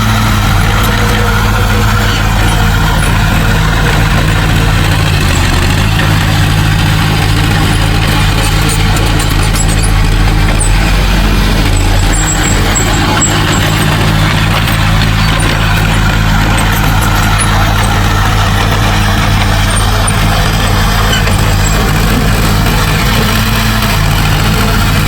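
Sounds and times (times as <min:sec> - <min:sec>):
diesel engine droning: 0:00.0 - 0:25.0.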